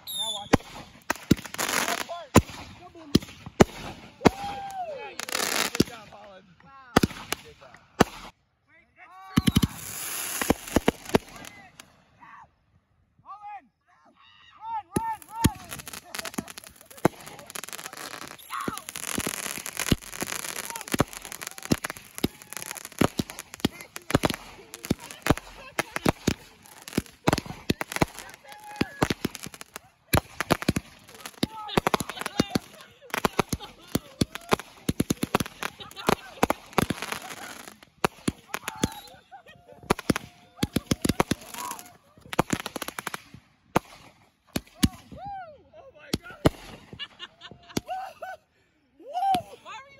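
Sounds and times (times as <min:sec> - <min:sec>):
firework bangs: 0:00.0 - 0:04.6, 0:06.9 - 0:08.4, 0:09.4 - 0:11.8, 0:15.0 - 0:45.2, 0:46.2 - 0:47.9
fireworks hissing and crackling: 0:00.0 - 0:06.2, 0:06.9 - 0:08.4, 0:09.4 - 0:12.0, 0:14.9 - 0:45.2, 0:46.1 - 0:47.9.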